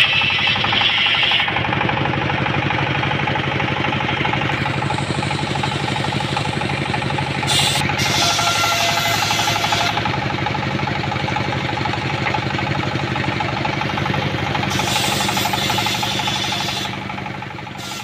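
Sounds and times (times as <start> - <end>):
saw blade cutting wood: 0.0 - 1.9, 3.9 - 18.0
sawmill engine running: 0.0 - 18.0.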